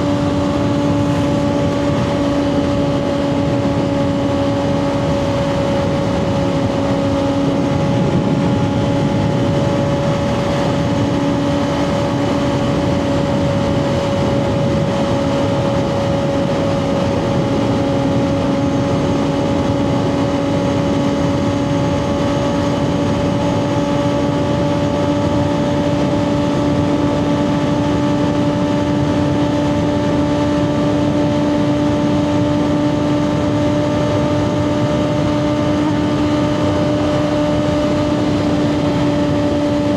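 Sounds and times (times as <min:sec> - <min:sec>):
motorcycle engine at high rpm: 0:00.0 - 0:39.9
wind and road noise: 0:00.0 - 0:39.9.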